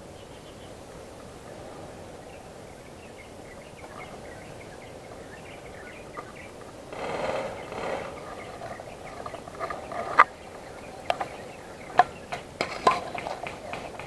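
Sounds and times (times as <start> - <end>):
tall grass rustling: 0.0 - 14.0.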